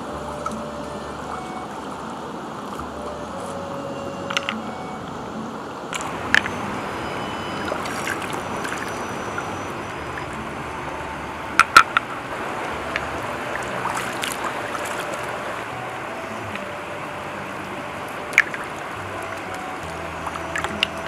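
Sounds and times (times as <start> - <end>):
river water running: 0.0 - 21.0.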